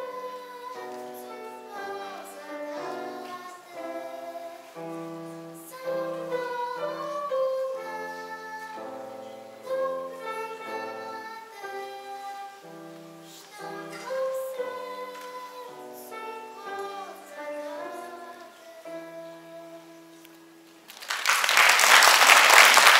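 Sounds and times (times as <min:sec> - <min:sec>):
child singing: 0:00.0 - 0:20.3.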